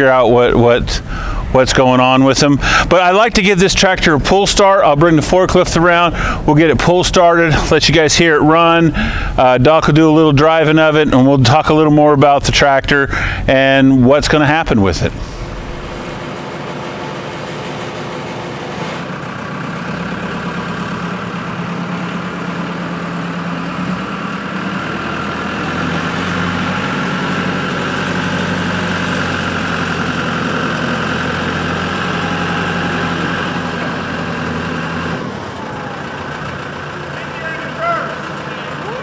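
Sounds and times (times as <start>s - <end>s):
forklift engine running: 0.0s - 11.8s, 13.2s - 39.0s.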